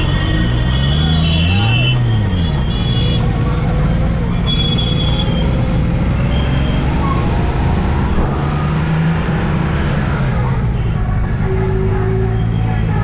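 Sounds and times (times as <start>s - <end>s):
road traffic: 0.0s - 13.0s
motorcycle engine rumbling: 1.8s - 13.0s.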